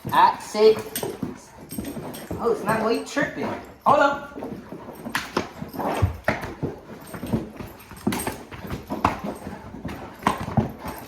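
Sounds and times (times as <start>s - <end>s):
dog paws thudding on floor: 0.0s - 11.0s.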